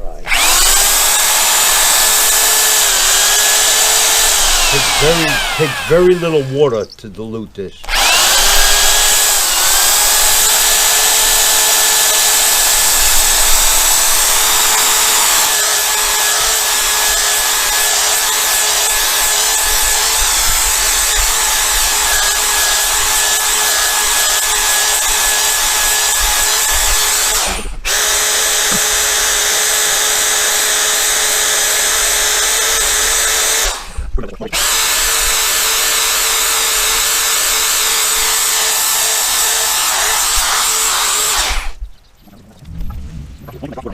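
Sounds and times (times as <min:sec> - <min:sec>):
electric drill running: 0:00.2 - 0:06.6, 0:07.8 - 0:41.8.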